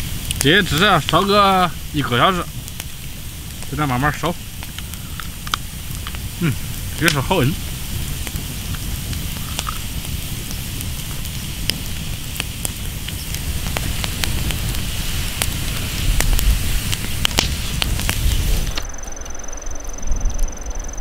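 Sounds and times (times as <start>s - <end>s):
wood fire crackling and popping: 0.0s - 19.4s
steady low rumble: 0.0s - 21.0s.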